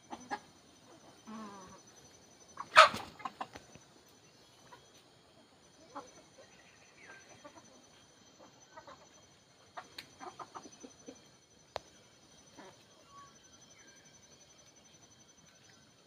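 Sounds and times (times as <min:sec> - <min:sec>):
chickens clucking softly: 0:00.0 - 0:14.4.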